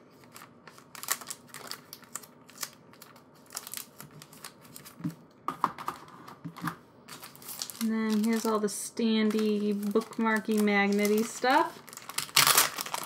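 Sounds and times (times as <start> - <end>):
merchandise being unpacked: 0.0 - 13.0.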